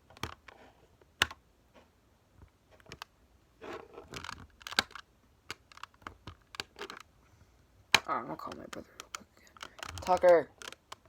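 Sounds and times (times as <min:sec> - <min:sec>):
plastic cube twisting clicks: 0:00.0 - 0:01.4, 0:02.8 - 0:07.1, 0:07.9 - 0:11.0.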